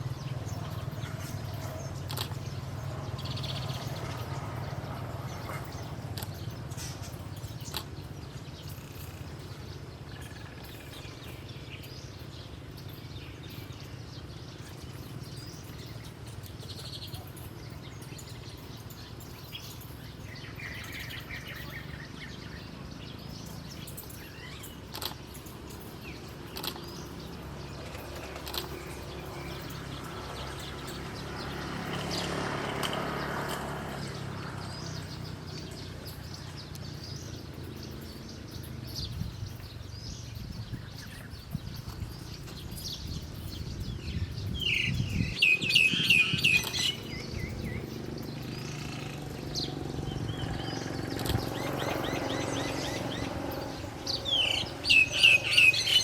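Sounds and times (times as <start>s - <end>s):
small bird chirping: 0.0s - 56.0s.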